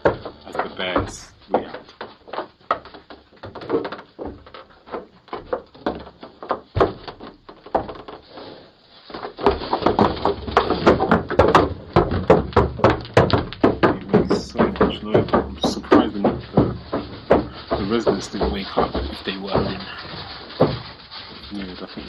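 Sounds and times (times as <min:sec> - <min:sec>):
cow hooves on wooden deck: 0:00.0 - 0:22.0.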